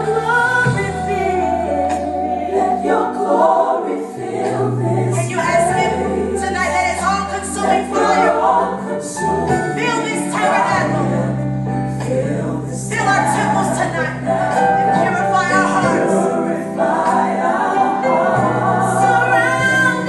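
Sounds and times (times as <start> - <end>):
choir singing gospel music: 0.0 - 20.0
sustained bass notes: 0.0 - 20.0.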